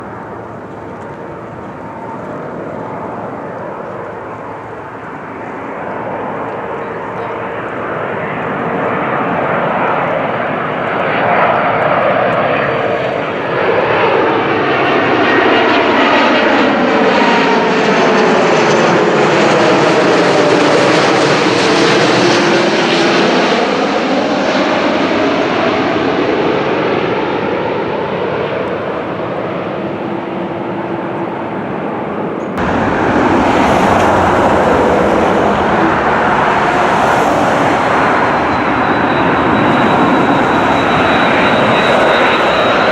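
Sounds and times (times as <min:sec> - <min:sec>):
jet engines flying overhead: 0:00.0 - 0:42.9.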